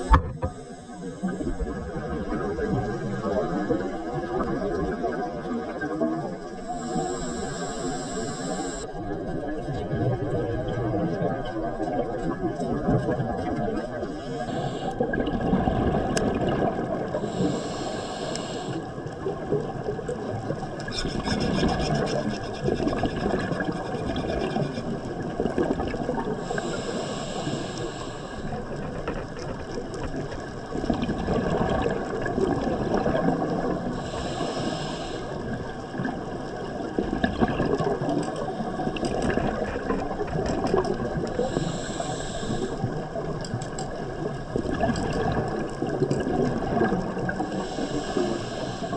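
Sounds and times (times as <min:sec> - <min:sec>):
exhaled bubbles hissing: 0:00.0 - 0:48.9.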